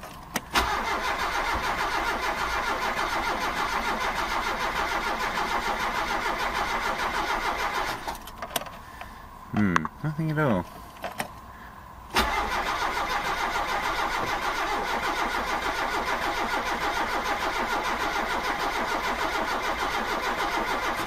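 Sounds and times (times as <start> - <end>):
car engine cranking on starter: 0.3 - 9.1, 12.1 - 21.0.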